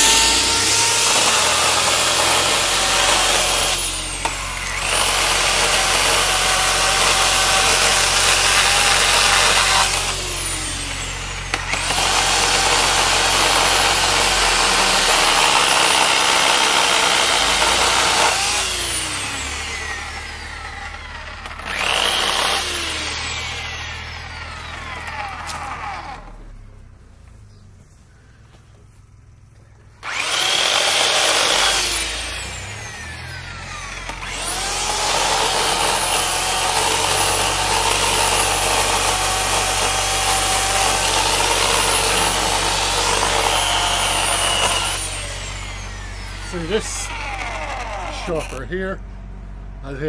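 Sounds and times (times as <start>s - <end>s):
electric chainsaw cutting branches: 0.0s - 26.6s, 30.0s - 48.6s.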